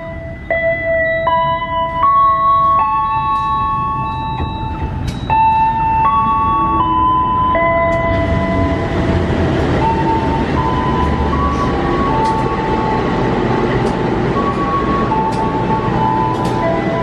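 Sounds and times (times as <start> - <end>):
diesel locomotive rumbling past: 0.0 - 17.0.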